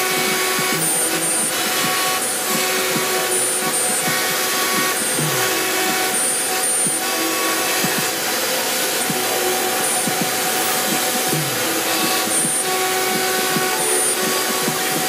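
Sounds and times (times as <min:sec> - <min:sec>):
high-pitched machine whines: 0:00.0 - 0:15.0
router spindle cutting: 0:00.0 - 0:15.0.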